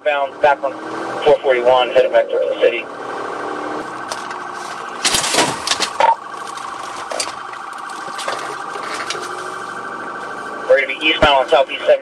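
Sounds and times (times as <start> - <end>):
police siren warbling: 0.1 - 12.0.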